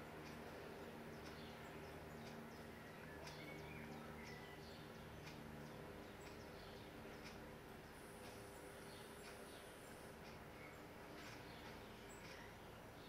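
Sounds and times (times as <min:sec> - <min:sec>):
low steady hum: 0:00.0 - 0:13.0
faint bird chirps: 0:01.1 - 0:13.0.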